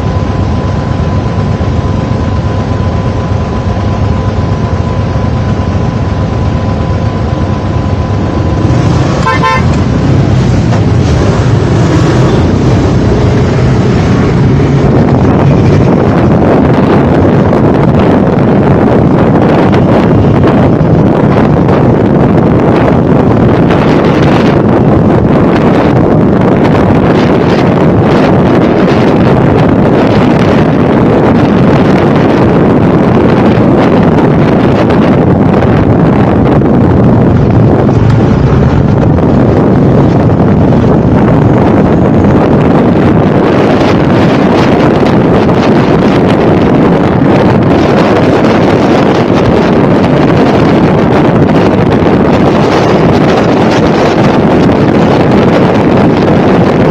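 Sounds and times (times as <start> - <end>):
motorbike engine and road noise: 0.0 - 56.9
wind buffeting microphone: 0.0 - 56.9.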